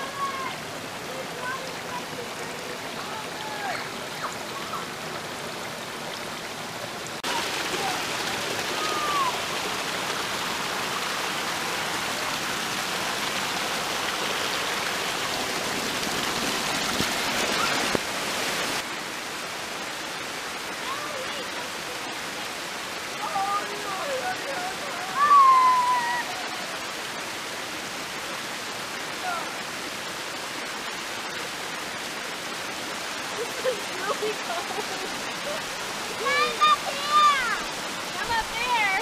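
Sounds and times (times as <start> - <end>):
waterfall splashing over rock: 0.0 - 39.0.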